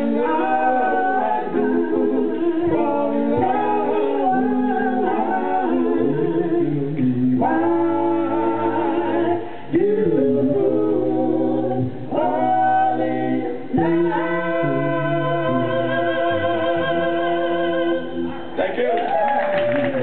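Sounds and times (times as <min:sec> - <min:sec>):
a cappella group singing doo-wop: 0:00.0 - 0:20.0.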